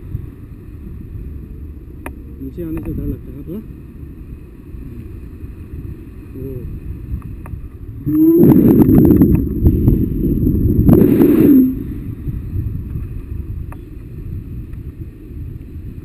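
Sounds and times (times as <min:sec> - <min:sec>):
crackling wind gust buffeting: 0:00.0 - 0:16.0
wind rumbling on microphone: 0:00.0 - 0:16.0.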